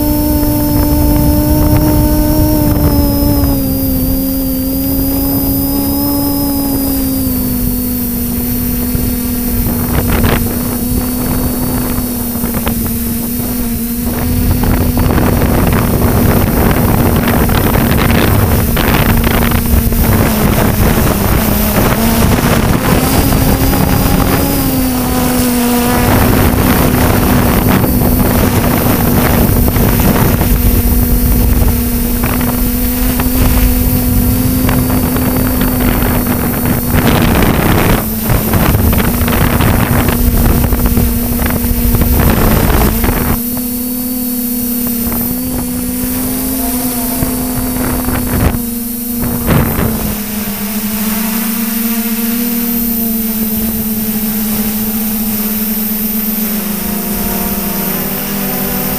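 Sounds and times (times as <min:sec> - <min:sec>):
drone motors and propellers humming: 0:00.0 - 0:58.9
wind buffeting microphone: 0:00.0 - 0:58.9.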